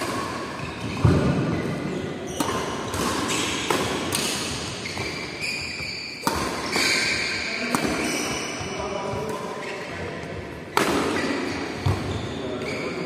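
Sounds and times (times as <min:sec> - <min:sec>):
rackets hitting shuttlecock: 0:00.0 - 0:09.6, 0:10.5 - 0:12.2.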